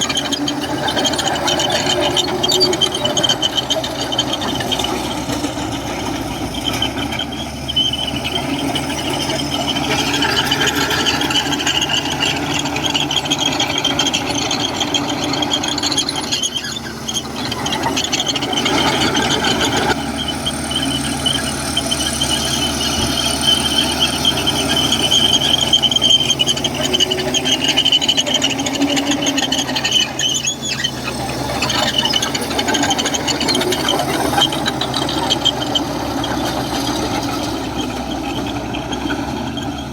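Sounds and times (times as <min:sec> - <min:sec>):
bulldozer diesel engine: 0:00.0 - 0:39.9
high metallic track squeal: 0:00.0 - 0:39.9.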